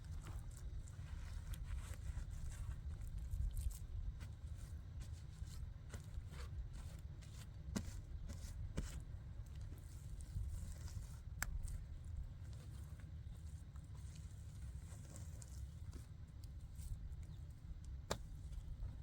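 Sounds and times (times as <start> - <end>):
small clicks and scrapes: 0.0 - 19.0.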